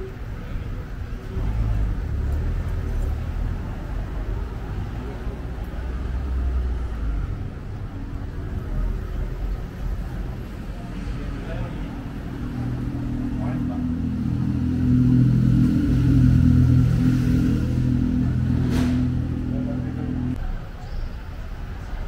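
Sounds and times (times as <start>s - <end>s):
motor vehicle rumbling: 0.0s - 22.0s.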